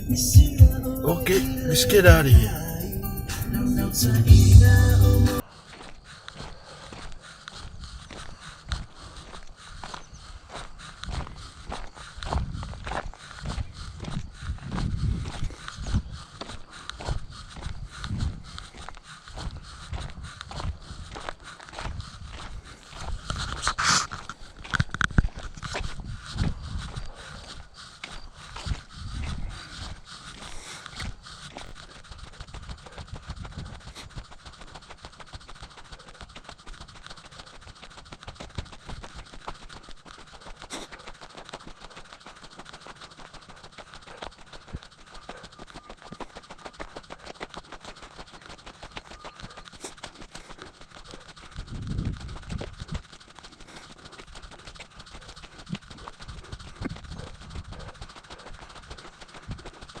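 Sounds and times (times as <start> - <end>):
footsteps on dirt trail: 0.0 - 60.0.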